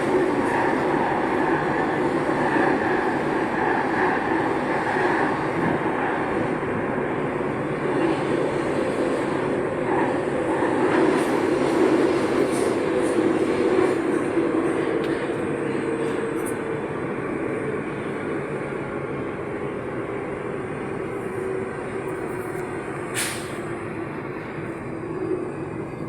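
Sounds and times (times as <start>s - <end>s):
wheels rumbling on track: 0.0s - 26.0s.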